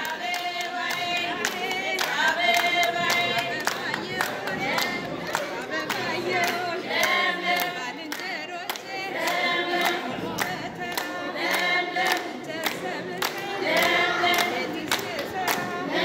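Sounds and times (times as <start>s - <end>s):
rhythmic hand-clapping: 0.0s - 16.0s
women singing together: 0.0s - 16.0s.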